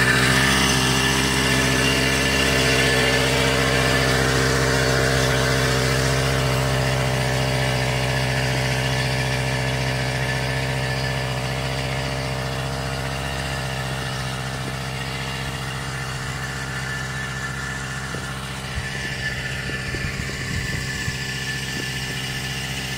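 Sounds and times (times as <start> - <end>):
drone propellers humming: 0.0 - 22.9.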